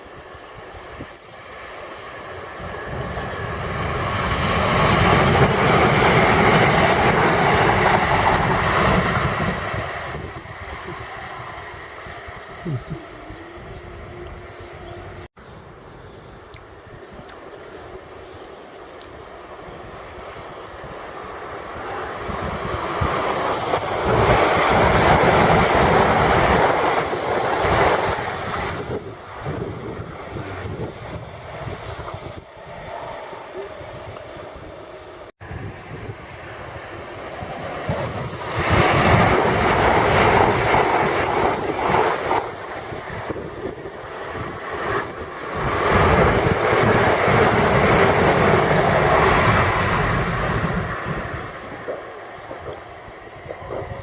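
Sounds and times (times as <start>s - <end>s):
electric train passing: 0.0s - 16.1s, 16.7s - 54.0s.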